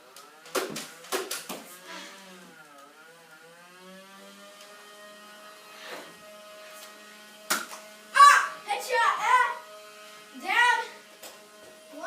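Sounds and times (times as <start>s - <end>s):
motor whirring: 1.6s - 12.0s.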